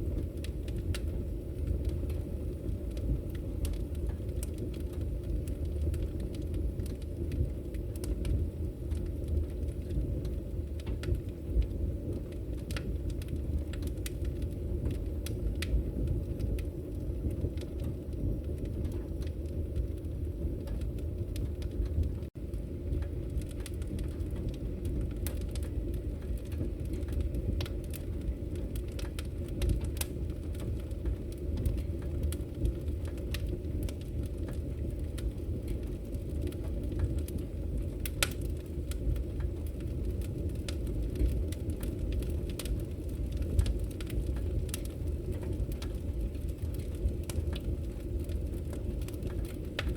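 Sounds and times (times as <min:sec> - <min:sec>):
logs crackling and popping: 0:00.0 - 0:49.9
wood fire burning: 0:00.0 - 0:49.9.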